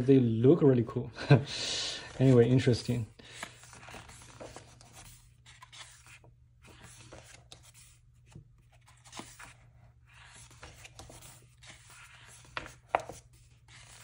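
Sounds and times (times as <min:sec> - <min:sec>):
paper pages rustling and sliding: 0:01.9 - 0:14.0.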